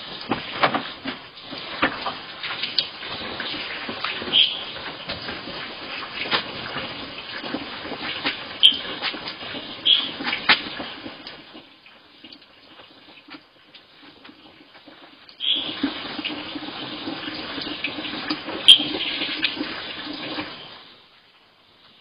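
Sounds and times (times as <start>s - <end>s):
water splashing on ground: 0.0s - 21.0s
water pouring from bucket: 0.0s - 21.2s.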